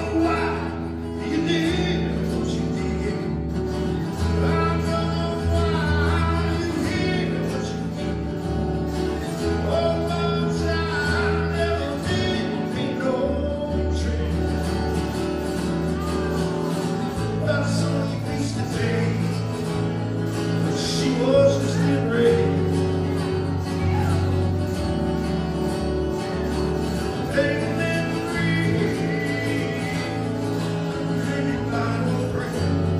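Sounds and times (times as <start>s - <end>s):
acoustic guitar: 0.0s - 32.9s
man singing: 0.0s - 32.9s.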